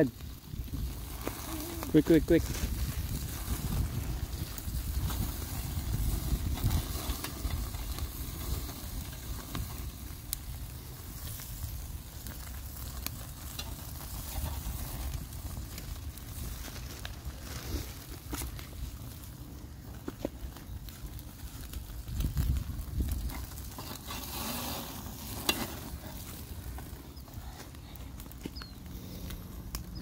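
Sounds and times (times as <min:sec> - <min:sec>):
patties sizzling on grill: 0:00.0 - 0:30.0.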